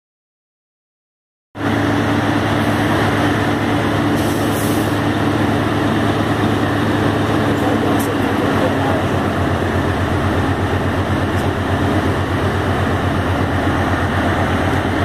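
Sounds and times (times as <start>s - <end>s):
diesel locomotive engine: 1.6s - 15.0s.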